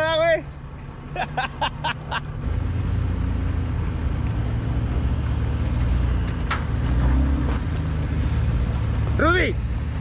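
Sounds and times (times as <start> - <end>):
truck engine pulling hard: 0.0 - 10.0.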